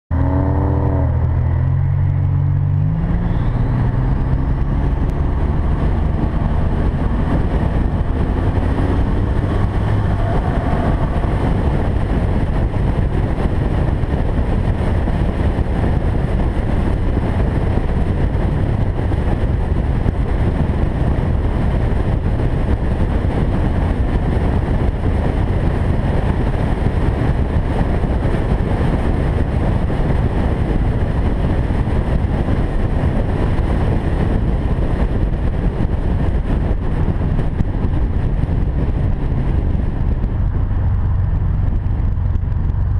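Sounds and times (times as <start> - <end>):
car engine accelerating: 0.1 - 42.9
wind and tyre noise: 0.1 - 42.9.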